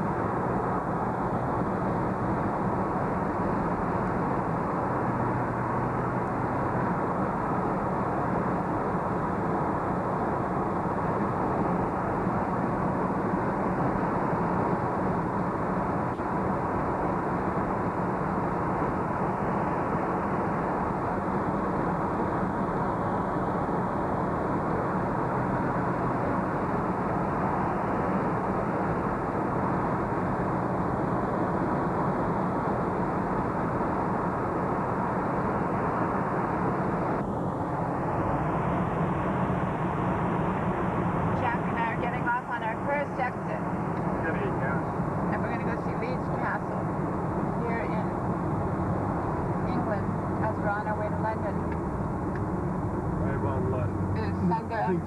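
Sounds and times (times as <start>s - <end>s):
vehicle hum and rumble: 0.0s - 55.0s.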